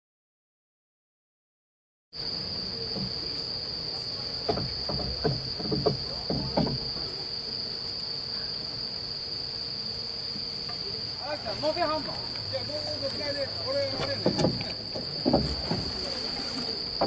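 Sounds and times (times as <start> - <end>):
insects chirping: 2.2 - 17.0.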